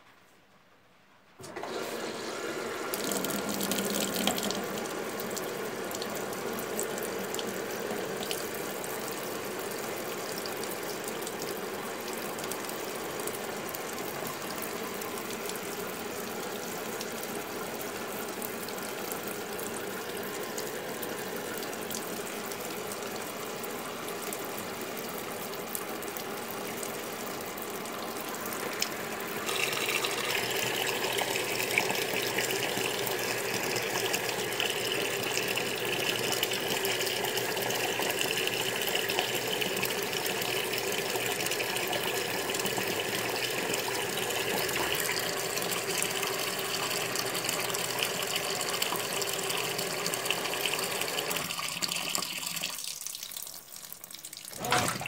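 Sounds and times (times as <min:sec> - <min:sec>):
washing machine agitator: 0:01.4 - 0:55.0
water pouring into washing machine: 0:01.4 - 0:55.0.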